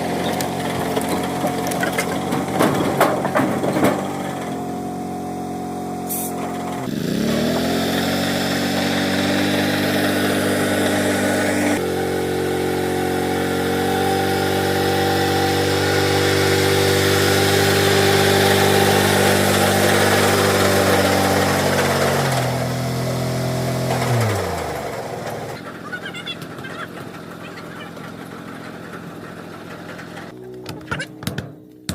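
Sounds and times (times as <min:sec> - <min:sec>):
engine running: 0:00.0 - 0:31.9.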